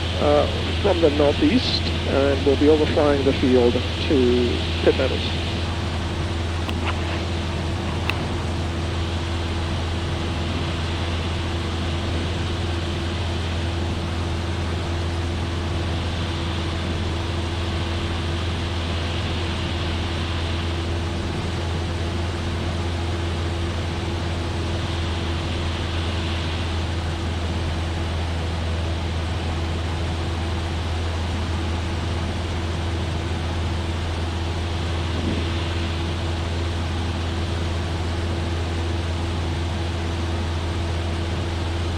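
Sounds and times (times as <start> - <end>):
airplane engine and propeller droning: 0.0 - 41.9.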